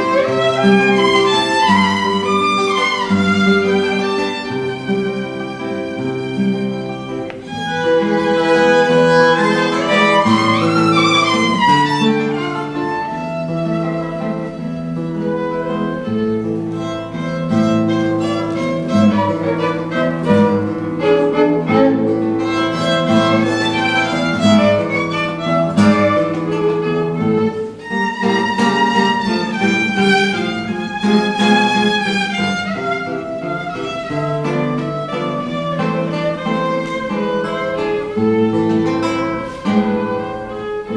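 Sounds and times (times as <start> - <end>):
guitar accompaniment: 0.0 - 40.9
violin melody with slides: 0.0 - 40.9.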